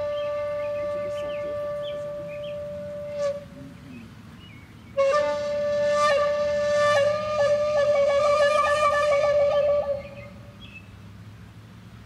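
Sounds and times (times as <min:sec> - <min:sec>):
solo flute with trills: 0:00.0 - 0:04.0, 0:04.9 - 0:10.8.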